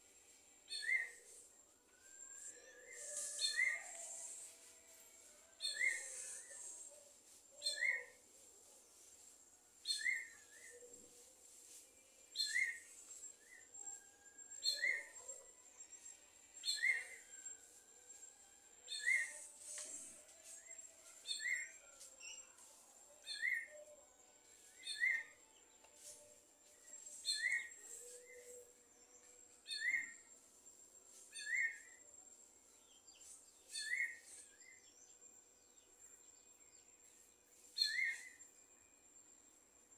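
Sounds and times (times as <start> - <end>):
faint steady high tone: 0.0 - 39.9.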